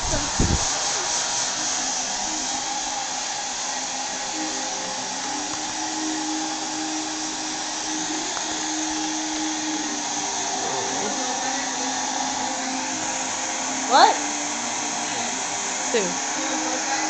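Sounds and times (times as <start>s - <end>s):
hair dryer blowing air: 0.0s - 17.0s.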